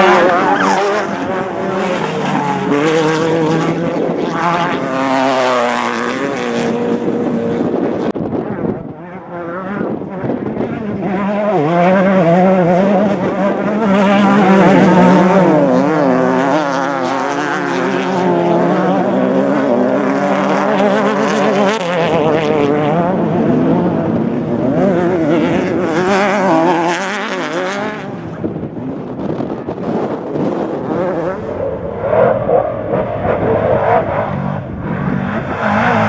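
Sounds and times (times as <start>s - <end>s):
race vehicle engines revving: 0.0s - 8.1s, 8.8s - 28.8s, 29.9s - 36.0s.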